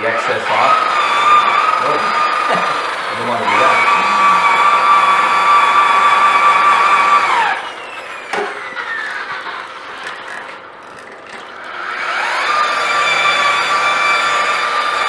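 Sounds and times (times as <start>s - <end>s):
car polisher whining: 0.0s - 15.0s
polisher spinning down: 0.0s - 15.0s.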